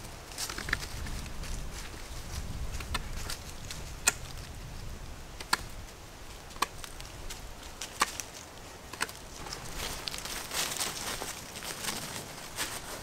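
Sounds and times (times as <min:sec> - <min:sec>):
footsteps in dry leaves: 0:00.0 - 0:04.5, 0:06.1 - 0:13.0.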